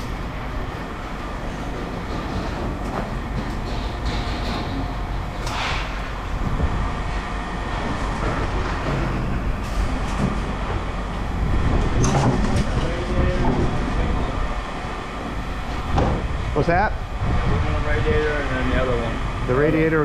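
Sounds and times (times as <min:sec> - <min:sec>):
heavy machinery rumbling: 0:00.0 - 0:20.0.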